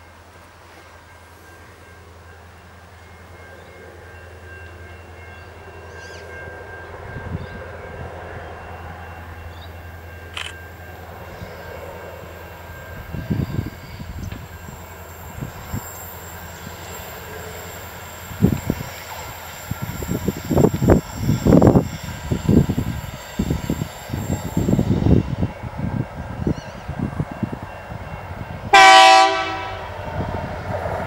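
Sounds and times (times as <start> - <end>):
distant diesel train drone: 0.0 - 31.0.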